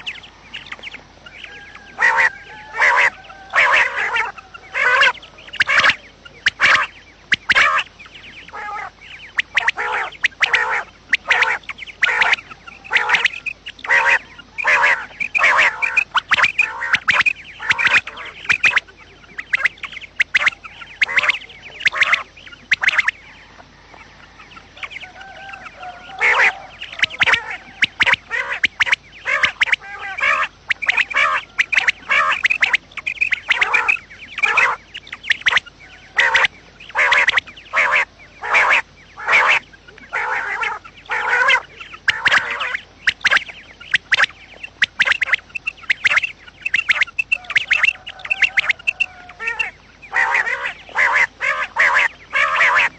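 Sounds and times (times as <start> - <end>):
quail calling: 0.0 - 52.9.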